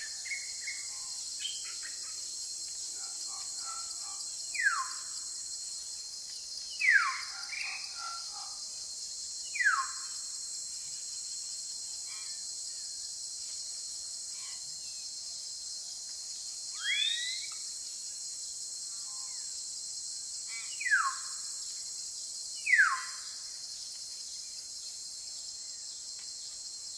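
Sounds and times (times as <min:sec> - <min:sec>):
insect drone: 0:00.0 - 0:26.9.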